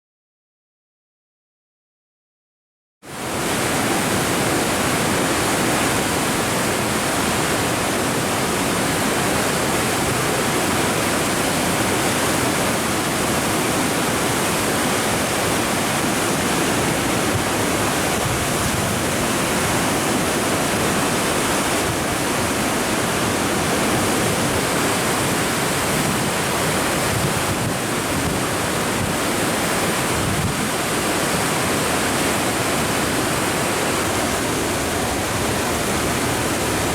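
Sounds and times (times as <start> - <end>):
waterfall rushing: 3.1 - 36.9.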